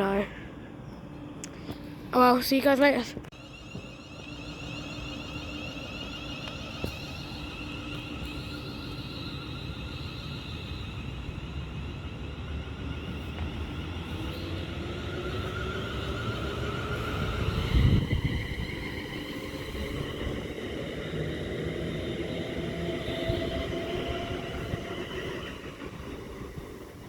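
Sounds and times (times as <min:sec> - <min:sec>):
electric train whine: 0:00.0 - 0:27.0.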